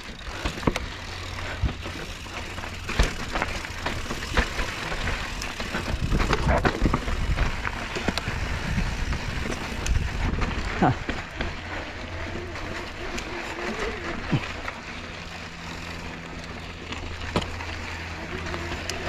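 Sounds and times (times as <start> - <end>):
bike clicks and rattles: 0.0 - 19.0
bike tyres rumbling on rocky trail: 0.0 - 19.0.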